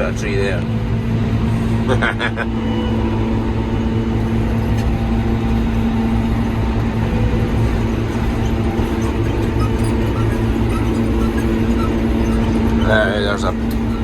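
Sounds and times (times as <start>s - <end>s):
constant humming tone: 0.0s - 14.0s
mower engine drone: 0.0s - 14.0s.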